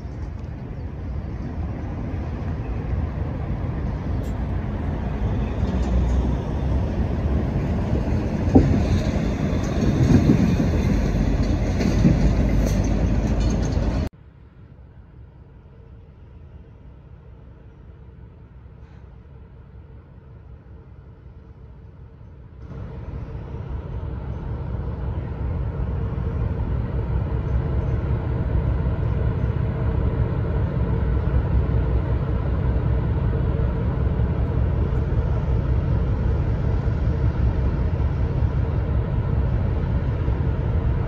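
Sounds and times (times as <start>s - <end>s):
ship machinery rumble: 0.0s - 14.1s, 19.3s - 41.0s
constant hum: 0.0s - 41.0s.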